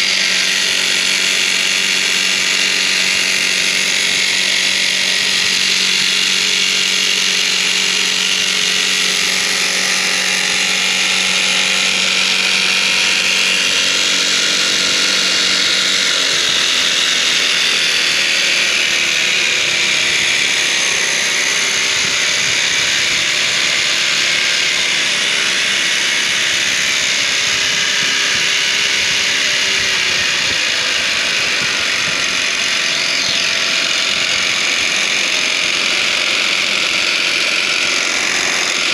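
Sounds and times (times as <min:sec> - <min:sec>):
motor and gearbox whirring: 0:00.0 - 0:38.9.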